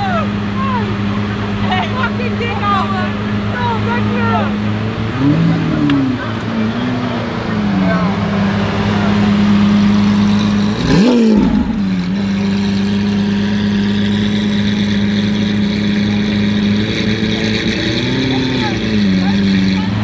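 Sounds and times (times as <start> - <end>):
sports car engine idling: 0.0 - 20.0
engine revving: 0.7 - 20.0.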